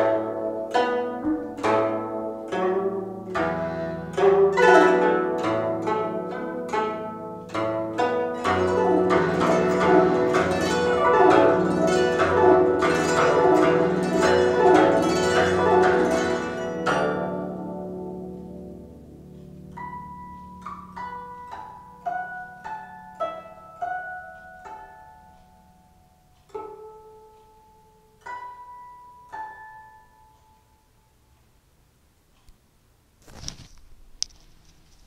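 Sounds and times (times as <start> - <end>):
plucked zither notes: 0.0 - 31.4.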